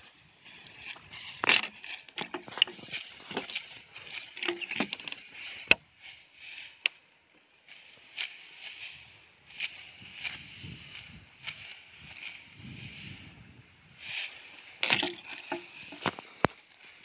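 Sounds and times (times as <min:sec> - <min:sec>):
sickles cutting dry rice stalks: 0:00.0 - 0:17.0.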